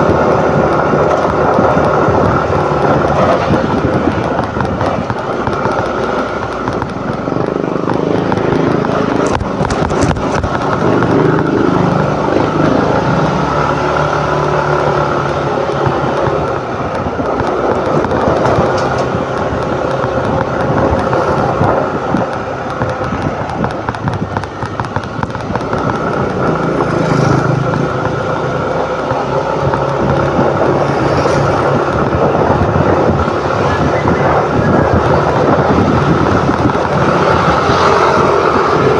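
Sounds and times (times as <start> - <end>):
motor scooter engine: 0.0 - 38.9
road and wind noise: 0.0 - 38.9.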